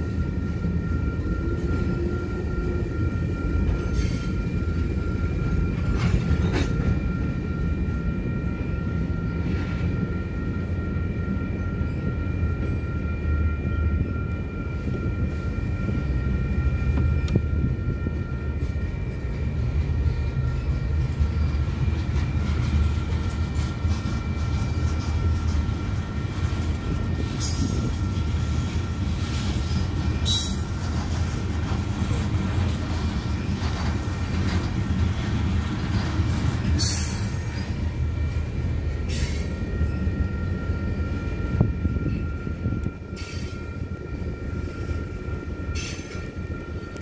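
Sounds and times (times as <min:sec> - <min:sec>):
train wheels rumbling on rail: 0:00.0 - 0:47.0
high wheel squeal: 0:00.7 - 0:47.0.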